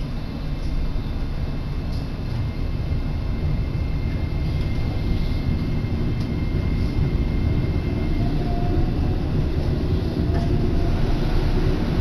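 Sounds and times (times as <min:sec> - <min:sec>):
train rumble from inside car: 0:00.0 - 0:12.0.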